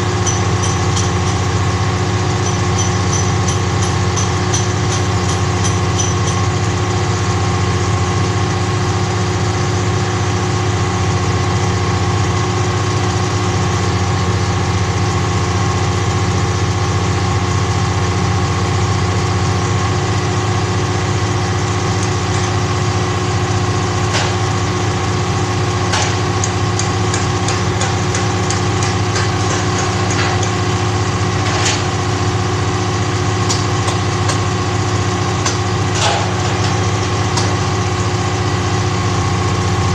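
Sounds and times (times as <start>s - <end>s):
crane engine running: 0.0s - 39.9s.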